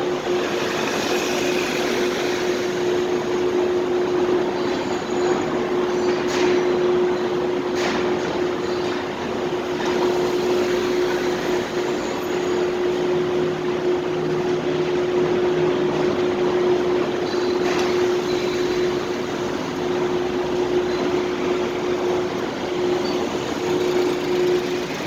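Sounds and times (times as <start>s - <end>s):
machinery and traffic rush: 0.0s - 25.0s.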